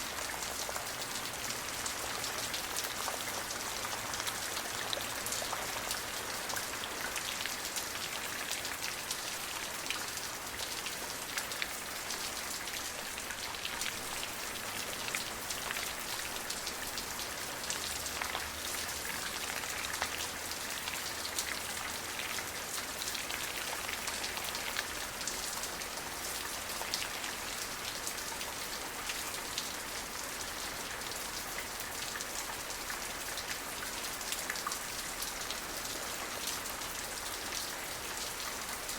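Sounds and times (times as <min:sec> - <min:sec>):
raindrops pattering on surface: 0:00.0 - 0:38.9.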